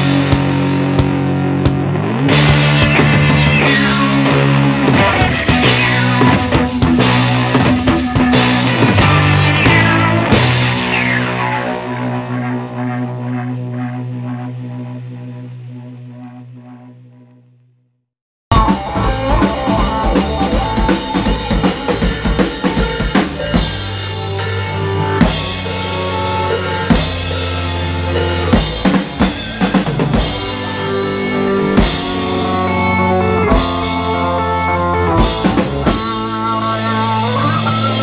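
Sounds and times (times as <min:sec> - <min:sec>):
drum kit: 0:00.0 - 0:14.8, 0:18.5 - 0:38.0
electric guitars: 0:00.0 - 0:16.1, 0:18.5 - 0:38.0
electric bass: 0:00.0 - 0:17.6, 0:18.5 - 0:38.0.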